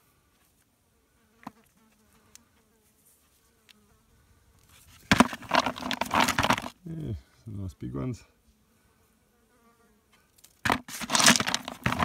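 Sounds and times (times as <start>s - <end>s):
insect buzzing: 0.9s - 6.8s, 8.2s - 12.0s.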